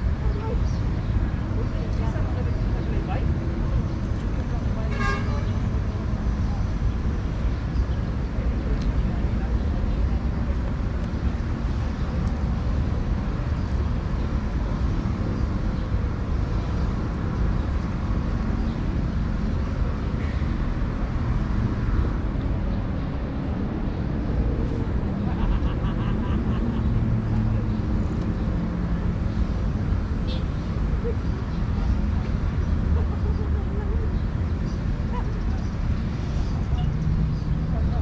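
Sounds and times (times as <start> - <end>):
low outdoor rumble: 0.0 - 38.0.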